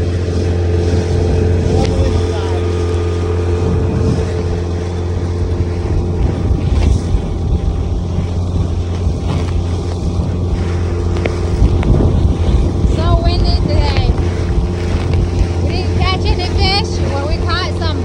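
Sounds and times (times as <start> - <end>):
low engine drone: 0.0 - 18.0
wind buffeting microphone: 0.0 - 18.0.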